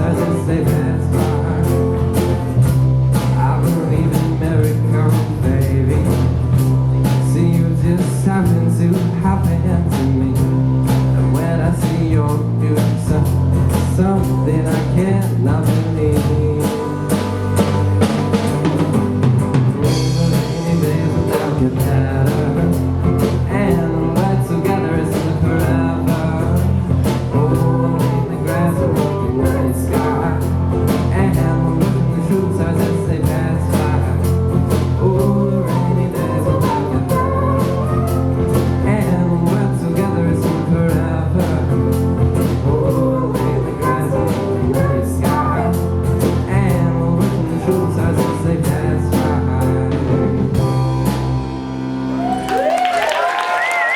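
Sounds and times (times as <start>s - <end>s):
person singing: 0.0s - 2.4s, 3.1s - 17.3s, 19.8s - 50.7s
bass guitar: 0.0s - 53.9s
drum kit beat: 0.0s - 53.9s
guitar: 0.0s - 53.9s.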